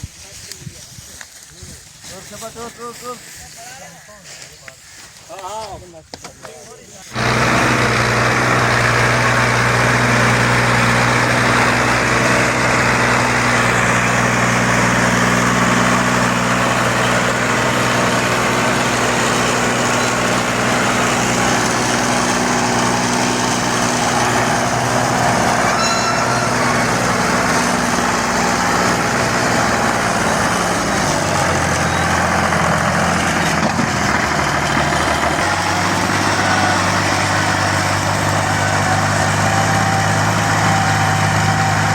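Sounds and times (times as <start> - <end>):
tractor diesel engine running: 7.0 - 41.9.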